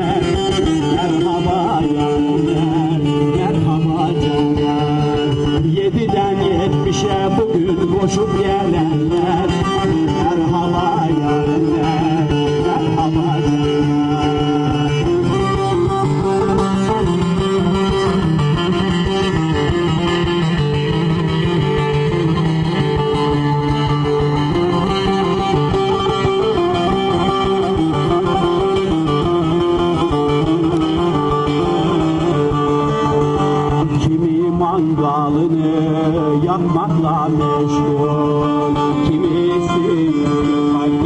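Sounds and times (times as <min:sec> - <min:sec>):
folk music on plucked strings: 0:00.0 - 0:41.0.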